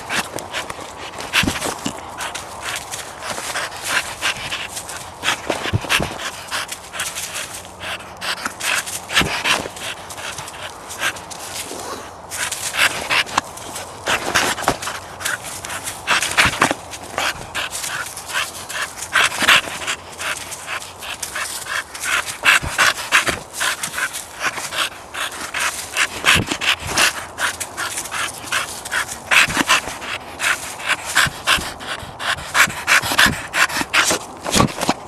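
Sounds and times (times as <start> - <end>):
dog panting: 0.0 - 35.0
paws scuffling through dry leaves: 0.0 - 35.0.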